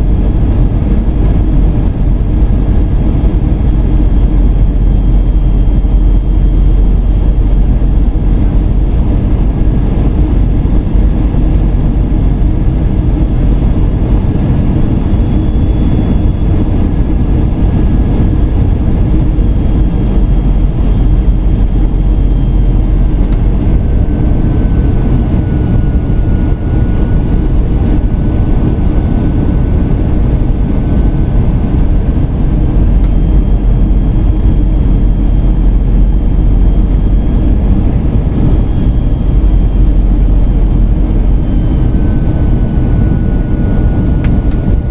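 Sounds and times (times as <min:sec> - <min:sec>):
airplane cabin jet engine rush: 0:00.0 - 0:44.9.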